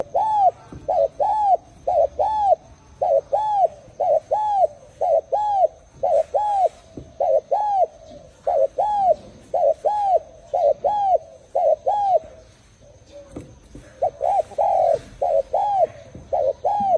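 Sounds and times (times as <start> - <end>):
dove cooing: 0.0 - 16.9.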